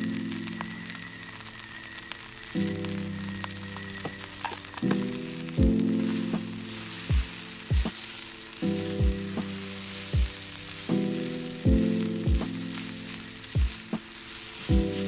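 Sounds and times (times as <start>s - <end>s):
background music with kick drum: 0.0s - 15.0s
rice sizzling on griddle: 0.0s - 15.0s.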